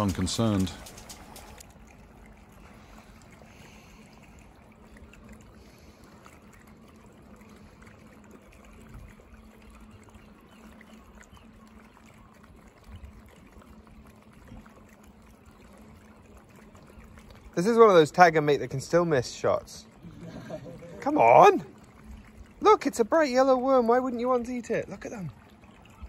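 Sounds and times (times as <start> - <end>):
tiny water splashes: 0.0 - 26.0
water trickling and lapping: 0.0 - 26.0.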